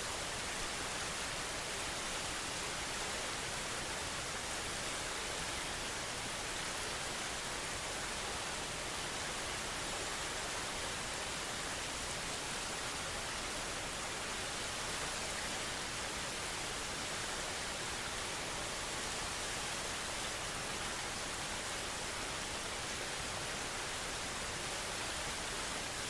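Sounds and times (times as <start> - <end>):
outdoor nature ambience: 0.0 - 26.0.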